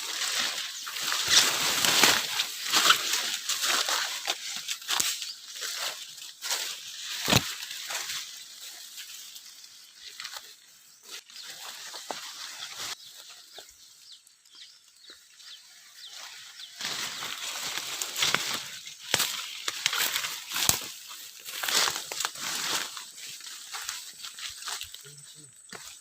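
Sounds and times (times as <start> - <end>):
bushes rustling and crackling: 0.0 - 26.0.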